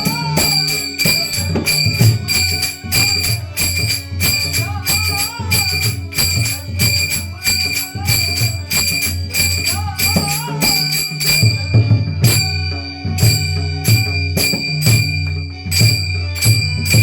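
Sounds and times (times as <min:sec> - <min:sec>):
hand cymbals clashing: 0:00.0 - 0:17.0.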